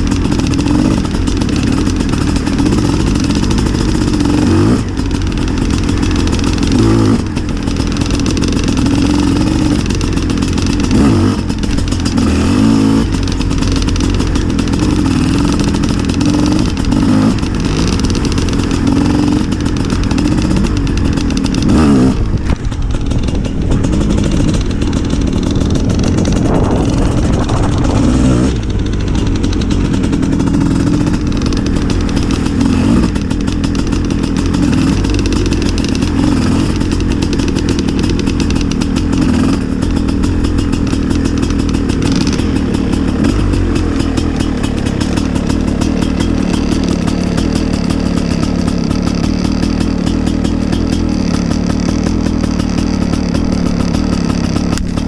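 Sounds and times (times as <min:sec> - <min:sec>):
two-stroke motorcycle engine revving: 0:00.0 - 0:55.0.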